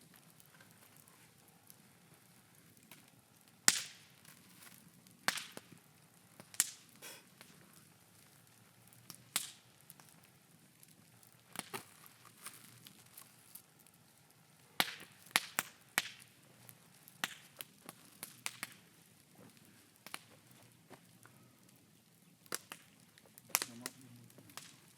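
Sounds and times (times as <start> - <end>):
bonfire crackling and popping: 0.0 - 24.9.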